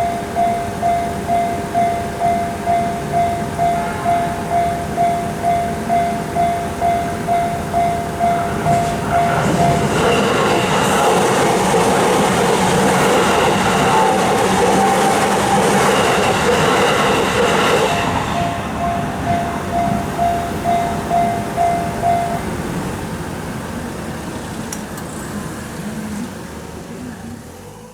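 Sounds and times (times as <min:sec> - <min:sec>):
crossing warning bell: 0:00.0 - 0:26.9
traffic noise: 0:00.0 - 0:27.9
train passing: 0:00.0 - 0:27.9.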